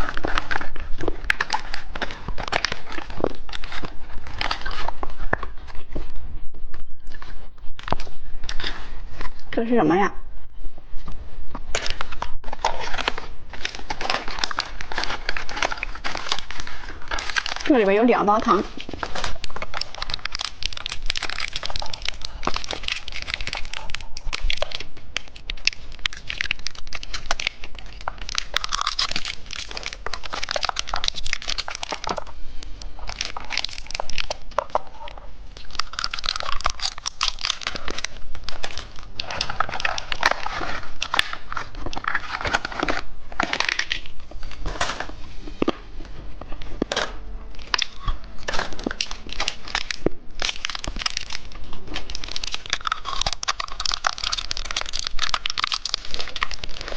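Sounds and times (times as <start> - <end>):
plastic candy wrappers crinkling: 0.0 - 9.8, 11.0 - 56.9.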